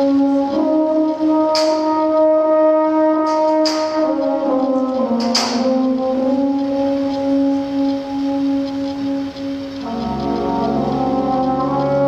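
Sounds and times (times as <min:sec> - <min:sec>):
held horn-like synth chords: 0:00.0 - 0:12.0.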